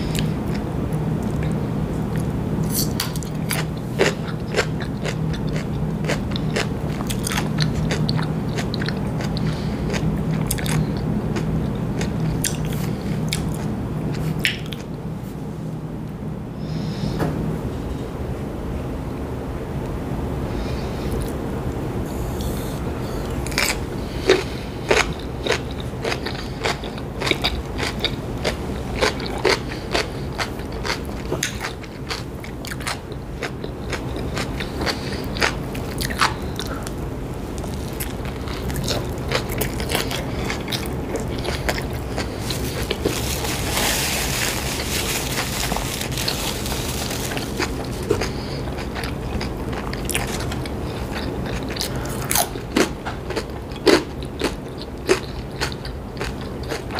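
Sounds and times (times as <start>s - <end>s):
crunching and chewing food: 0.0s - 15.0s, 22.1s - 56.9s.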